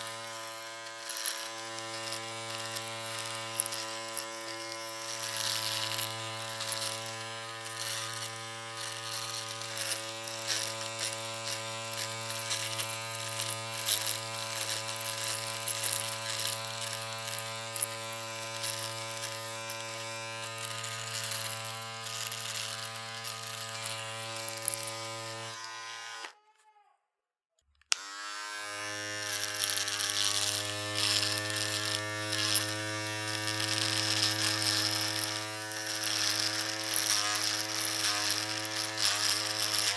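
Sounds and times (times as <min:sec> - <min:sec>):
electric shaver buzzing: 0:00.0 - 0:26.5, 0:27.9 - 0:39.9.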